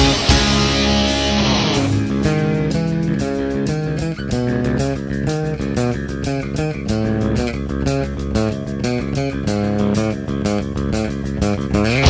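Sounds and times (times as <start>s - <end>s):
bass guitar: 0.0s - 12.0s
electric guitar instrumental: 0.0s - 12.0s.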